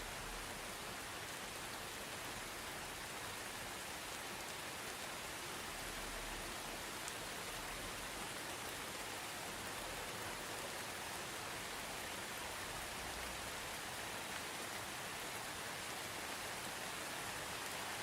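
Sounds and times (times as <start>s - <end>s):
soft steady rain: 0.0s - 18.0s.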